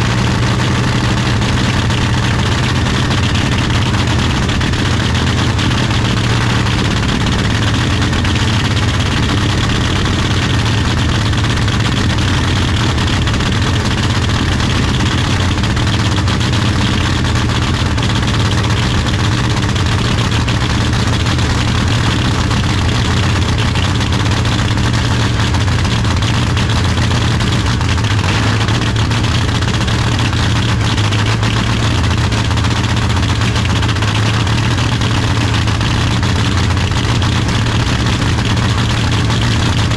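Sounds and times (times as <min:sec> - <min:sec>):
race car engine idling: 0:00.0 - 0:39.9.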